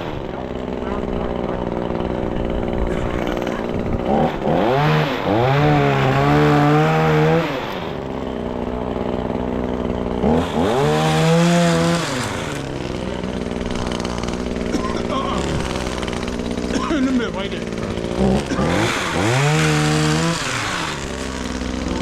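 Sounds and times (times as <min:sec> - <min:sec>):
chainsaw idling and revving: 0:00.0 - 0:22.0.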